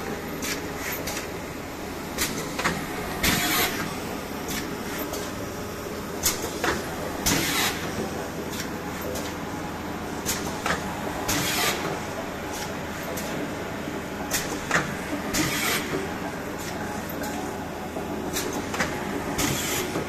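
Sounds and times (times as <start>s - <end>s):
printing machine droning: 0.0s - 20.0s.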